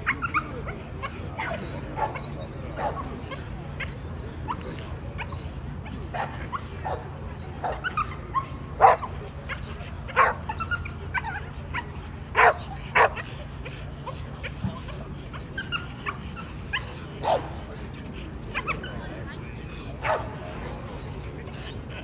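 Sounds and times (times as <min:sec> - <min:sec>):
dogs barking and yipping: 0:00.0 - 0:22.0.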